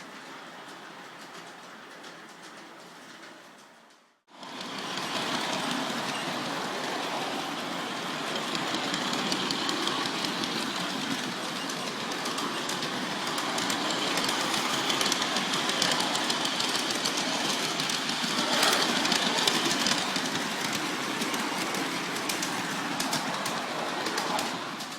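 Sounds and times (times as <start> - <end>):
model train rolling rumble: 0.0 - 24.9
wheels clicking over rails: 0.0 - 24.9.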